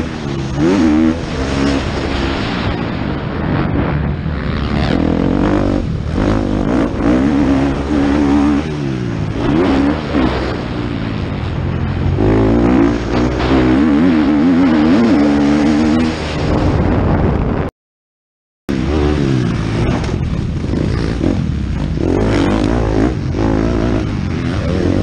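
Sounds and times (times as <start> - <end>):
motocross bike engine revving: 0.0 - 16.8, 18.7 - 25.0.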